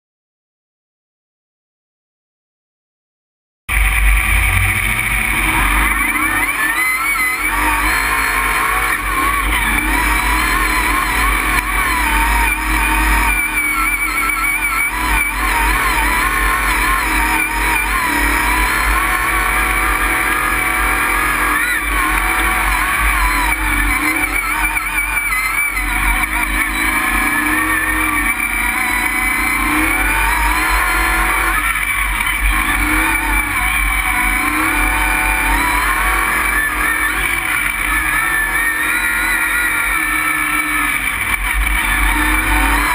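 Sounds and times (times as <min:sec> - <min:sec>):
truck engine revving: 0:03.7 - 0:42.9.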